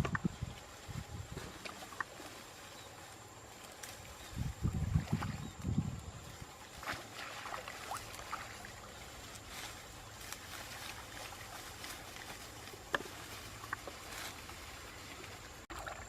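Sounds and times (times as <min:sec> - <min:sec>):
small splashes: 0:00.0 - 0:16.0
water sloshing: 0:00.0 - 0:16.0.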